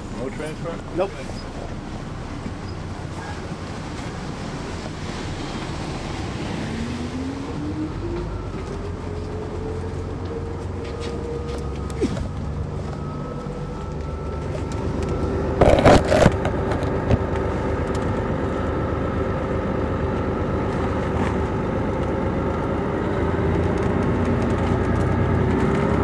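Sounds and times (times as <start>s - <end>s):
bus engine drone with whine: 0.0s - 26.0s.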